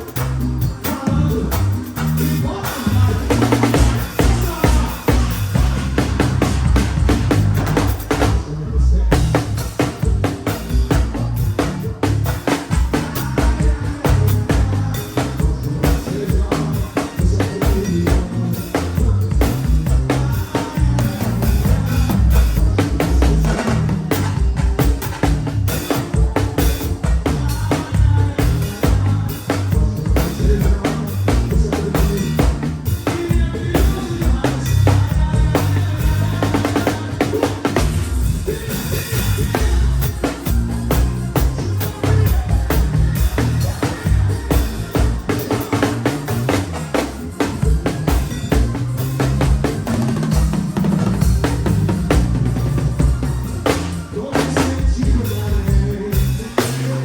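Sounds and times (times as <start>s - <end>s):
backing track music: 0.0s - 57.0s
drum kit playing: 0.0s - 57.0s.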